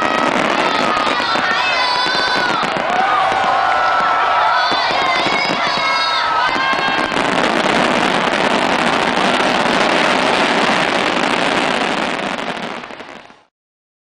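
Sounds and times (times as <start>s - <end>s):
fireworks bangs: 0.0s - 13.5s.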